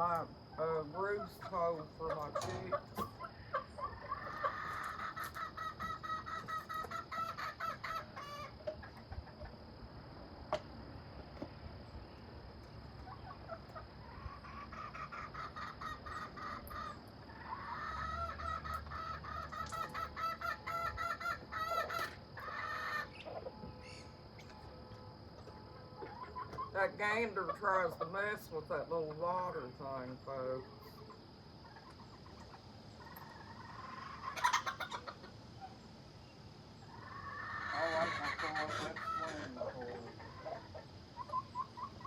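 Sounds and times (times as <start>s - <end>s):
hens clucking: 0.0s - 10.7s, 12.6s - 24.8s, 25.4s - 35.9s, 36.8s - 42.0s.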